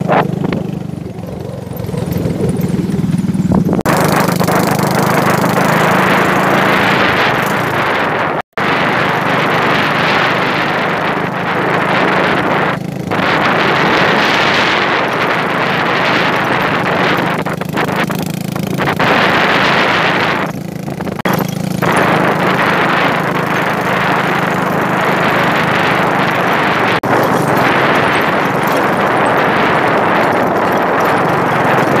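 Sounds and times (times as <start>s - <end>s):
small motorcycle engine hum: 0.0s - 32.0s
wind noise on microphone: 0.0s - 32.0s.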